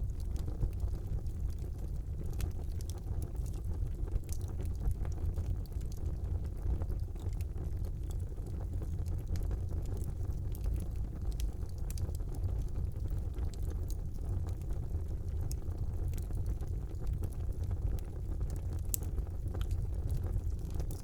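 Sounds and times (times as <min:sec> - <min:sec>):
fire crackles and pops: 0:00.0 - 0:21.0
fire flames rumbling: 0:00.0 - 0:21.0.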